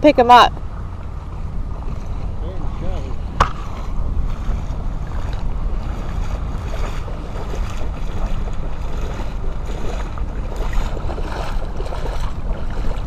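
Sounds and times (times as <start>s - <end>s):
wind rumble on microphone: 0.0s - 13.0s
shallow water sloshing: 0.8s - 13.0s.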